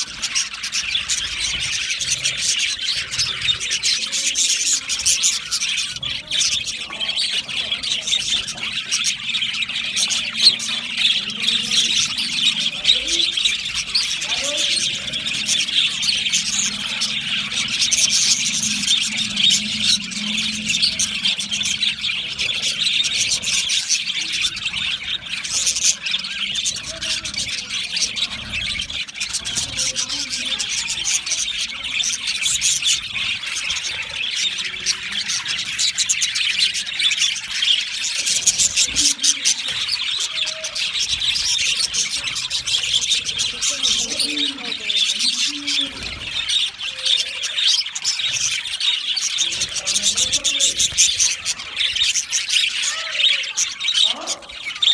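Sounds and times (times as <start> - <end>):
budgerigars chattering and chirping: 0.0 - 54.9.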